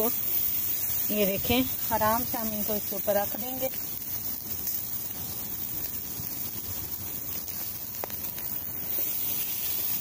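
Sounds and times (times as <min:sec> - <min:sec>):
faint crackles: 0:00.0 - 0:10.0
meat sizzling on grill: 0:00.0 - 0:10.0.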